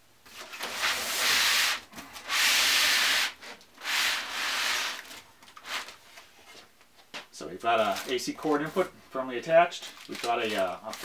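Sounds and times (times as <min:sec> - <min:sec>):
bubble wrap rustling and scraping: 0:00.3 - 0:06.7, 0:07.7 - 0:08.9, 0:09.7 - 0:11.0.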